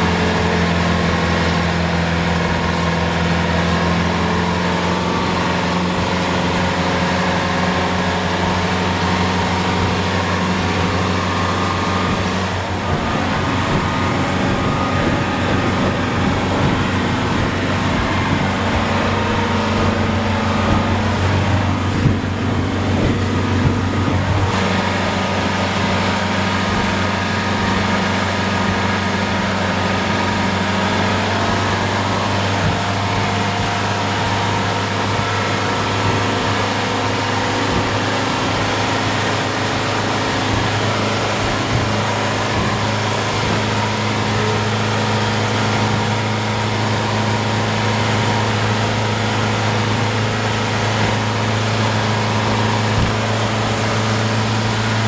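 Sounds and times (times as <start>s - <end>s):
boat diesel engine droning: 0.0s - 55.0s
wake rushing: 0.0s - 55.0s
wind: 0.0s - 55.0s.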